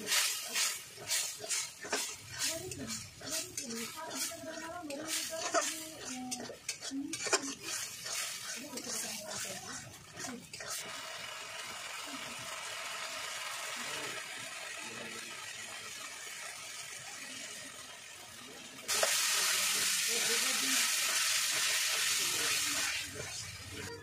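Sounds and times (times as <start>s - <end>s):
onions sizzling in a pan: 0.0s - 24.0s.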